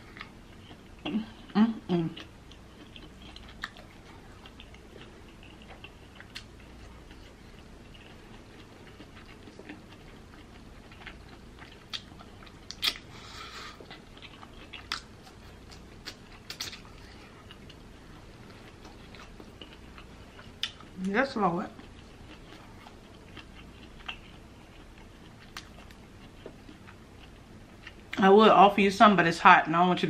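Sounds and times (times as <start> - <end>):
person chewing food: 0.0 - 28.2.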